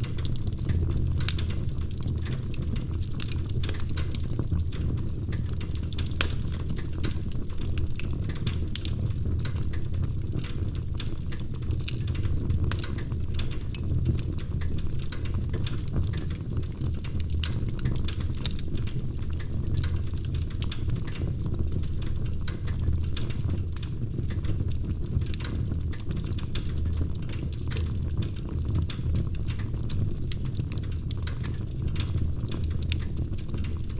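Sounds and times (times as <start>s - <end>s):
burning wood crackling and popping: 0.0s - 33.9s
fire rumbling: 0.0s - 33.9s.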